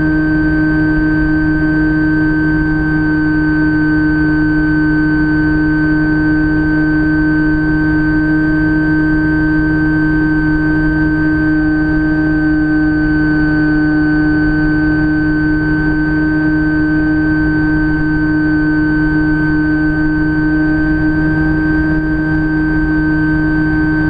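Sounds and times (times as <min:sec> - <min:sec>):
electric motor and propeller drone: 0:00.0 - 0:24.0.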